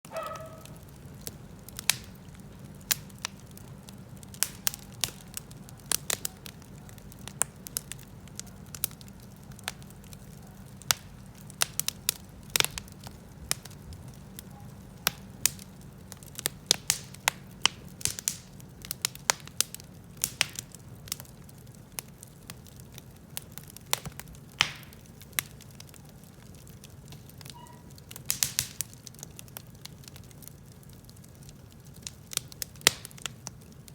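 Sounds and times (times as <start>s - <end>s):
low steady hum: 0.1s - 33.9s
wood fire crackling and popping: 0.1s - 33.9s.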